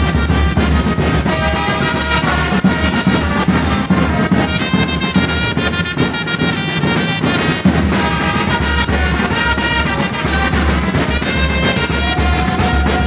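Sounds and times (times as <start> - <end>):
bass drum beat: 0.0 - 13.0
trumpets holding melodic notes: 0.0 - 13.0.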